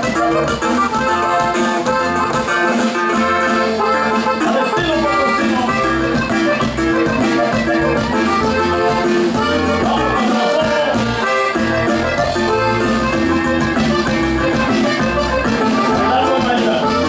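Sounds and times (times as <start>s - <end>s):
accordion lead: 0.0s - 17.0s
live band playing: 0.0s - 17.0s.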